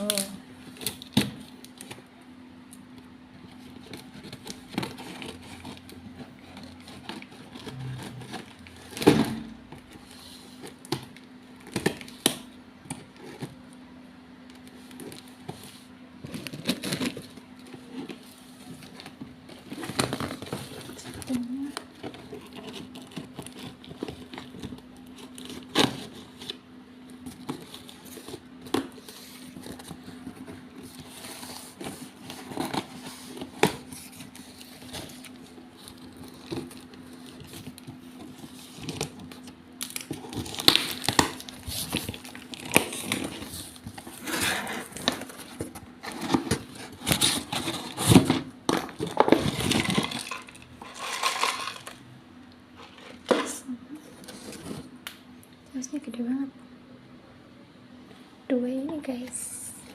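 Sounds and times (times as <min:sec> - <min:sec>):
plastic wrapping crinkling and tearing: 0:00.0 - 0:52.0.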